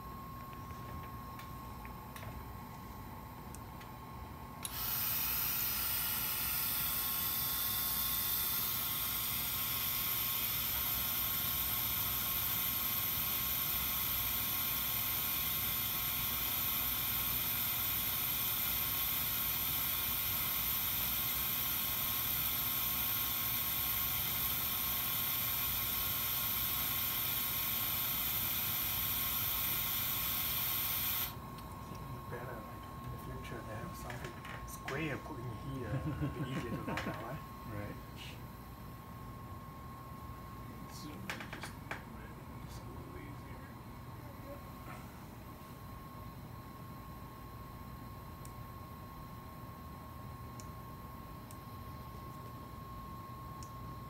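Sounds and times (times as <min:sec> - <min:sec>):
air system hiss with high whine: 0:00.0 - 0:54.0.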